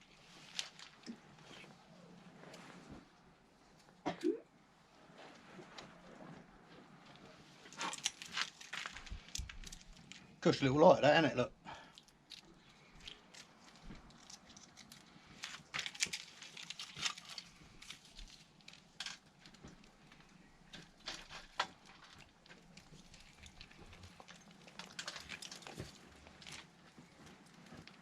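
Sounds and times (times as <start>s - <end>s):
crackles and rustles of kindling: 0.0s - 28.0s.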